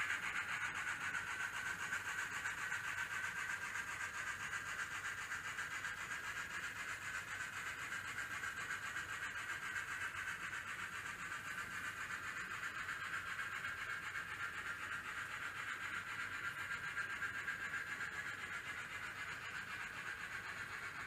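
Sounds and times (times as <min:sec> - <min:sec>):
model train motors whirring: 0:00.0 - 0:21.0.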